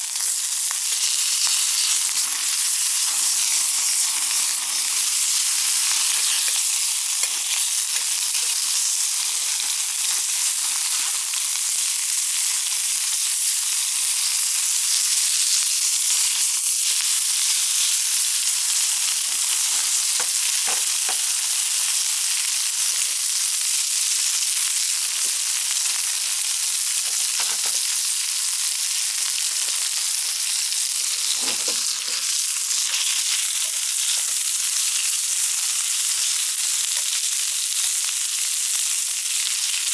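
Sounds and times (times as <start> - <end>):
food sizzling over campfire: 0.0 - 39.9.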